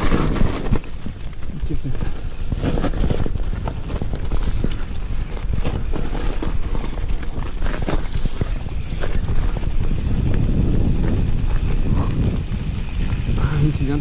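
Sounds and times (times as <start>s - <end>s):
bike clicks and rattles: 0.0s - 14.0s
wind buffeting microphone: 0.0s - 14.0s.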